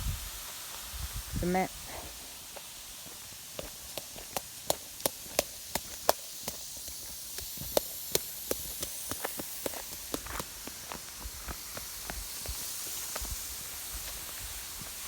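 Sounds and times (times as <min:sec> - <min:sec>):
lawn sprinkler spraying water: 0:00.0 - 0:15.0
sprinkler ticking: 0:02.5 - 0:15.0.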